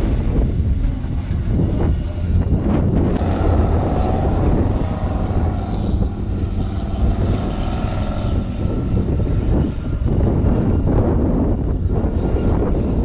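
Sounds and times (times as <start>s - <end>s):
engine droning: 0.0s - 13.0s
heavy low rumble: 0.0s - 13.0s.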